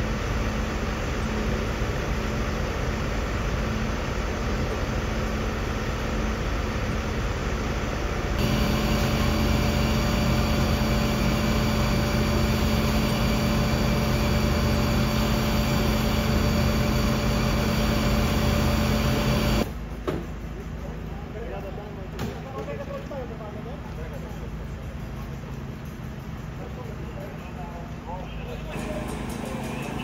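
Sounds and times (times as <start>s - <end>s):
fire truck engines running: 0.0s - 22.2s, 22.8s - 30.0s.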